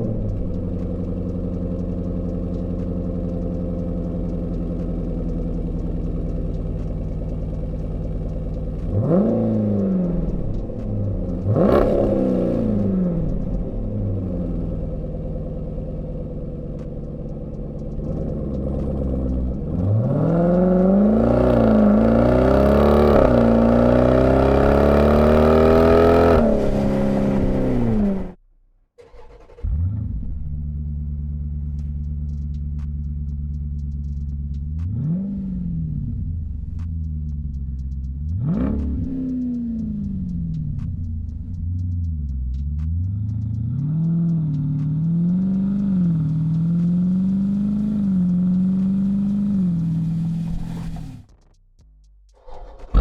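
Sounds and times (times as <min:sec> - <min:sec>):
car engine accelerating: 0:00.0 - 0:28.4, 0:29.0 - 0:53.0
car engine revving: 0:00.0 - 0:28.4, 0:29.0 - 0:51.7, 0:52.3 - 0:53.0
car engine idling: 0:00.0 - 0:53.0.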